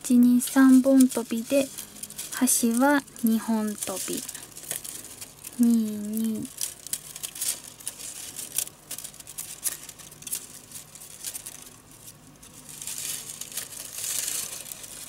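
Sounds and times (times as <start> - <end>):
bamboo strips rustling and clicking: 0.0 - 15.0.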